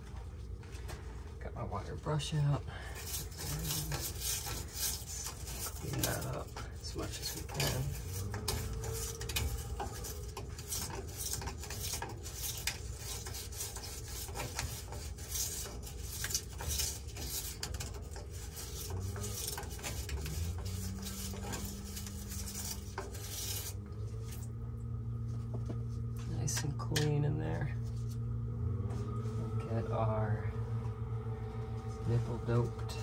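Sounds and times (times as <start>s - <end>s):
brush scrubbing pipe threads: 0.0s - 28.3s, 31.4s - 33.0s.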